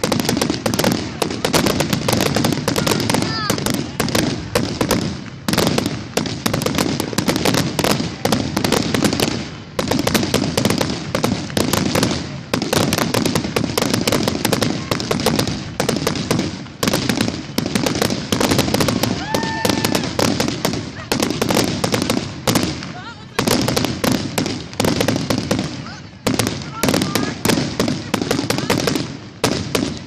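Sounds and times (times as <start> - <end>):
fireworks cracking and banging: 0.0 - 30.0.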